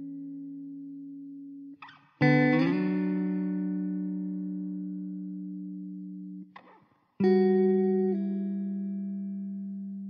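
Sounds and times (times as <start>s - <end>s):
plucked guitar notes: 0.0s - 10.0s.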